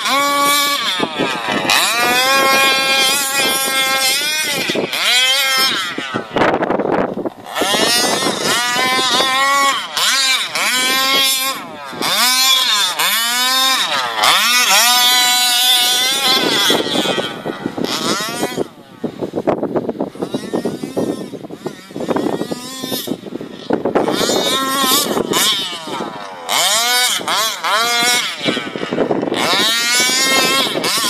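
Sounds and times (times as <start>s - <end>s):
two-stroke engine revving: 0.0s - 31.0s.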